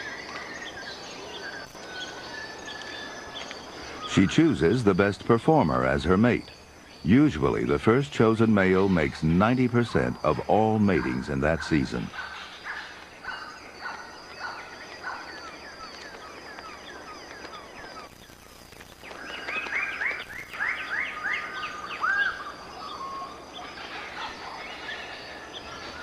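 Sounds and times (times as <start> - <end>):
birds calling downward-slurred notes: 0.0 - 26.0.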